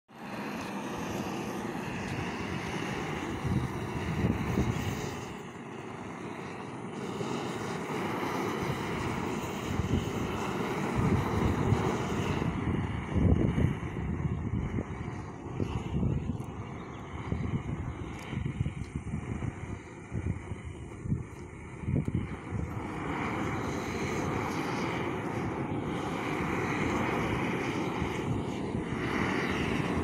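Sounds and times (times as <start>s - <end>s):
gas torches burning: 0.1s - 30.0s.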